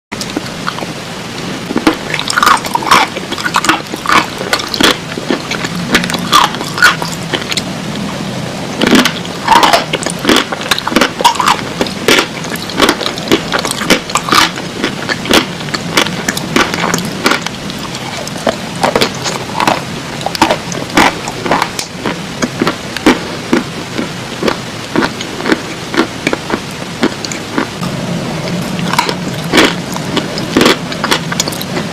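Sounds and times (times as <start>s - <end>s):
clay being chewed crunchily: 1.7s - 7.6s, 8.8s - 27.9s, 28.5s - 31.8s.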